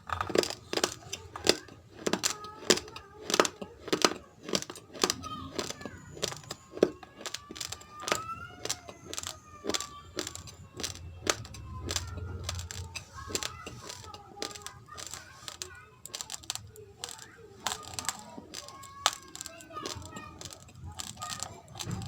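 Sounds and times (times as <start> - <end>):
rice grains being chewed: 0.0 - 22.0.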